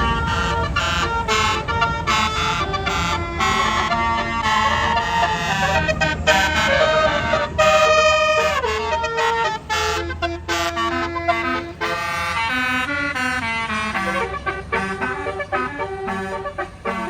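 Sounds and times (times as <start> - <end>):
bus engine rumble: 0.0 - 17.0
melodic air horn playing tune: 0.0 - 17.0.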